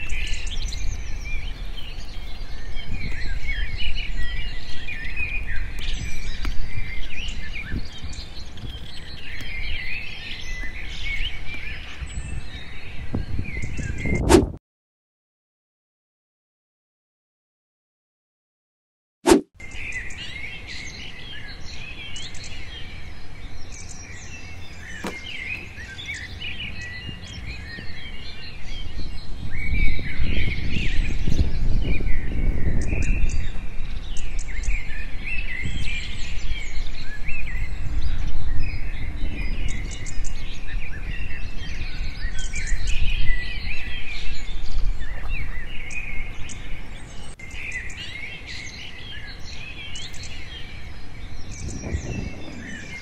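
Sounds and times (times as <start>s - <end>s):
birds chirping: 0.0s - 14.3s, 19.6s - 53.0s.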